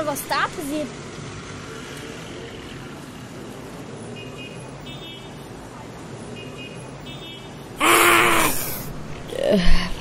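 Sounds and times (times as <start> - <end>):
street traffic noise: 0.0 - 10.0.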